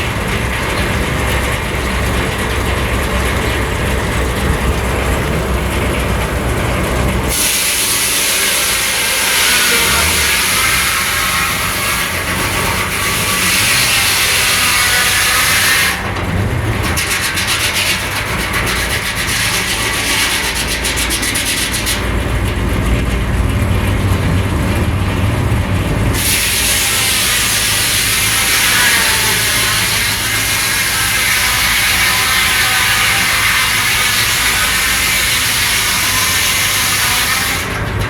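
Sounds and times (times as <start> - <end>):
sawmill sawing wood: 0.0 - 38.0.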